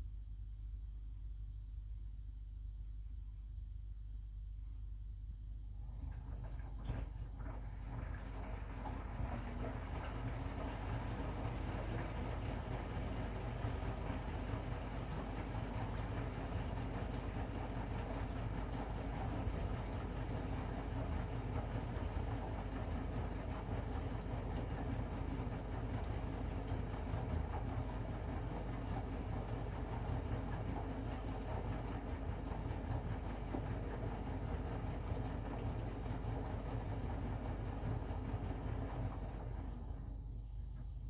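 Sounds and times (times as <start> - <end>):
water sloshing in washing machine: 5.8 - 41.0.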